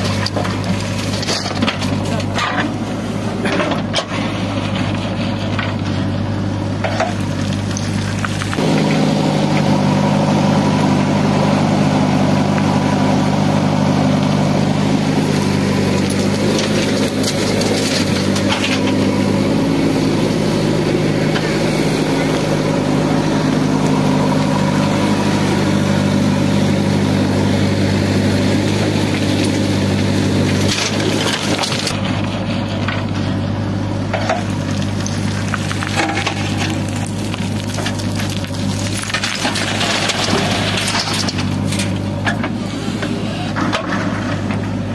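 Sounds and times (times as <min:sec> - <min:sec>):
close engine hum: 0:00.0 - 0:44.9
diesel engines running: 0:00.0 - 0:44.9.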